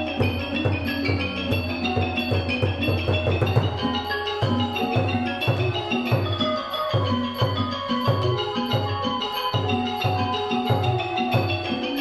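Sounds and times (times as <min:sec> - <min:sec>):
xylophones and gong circles melody: 0:00.0 - 0:12.0.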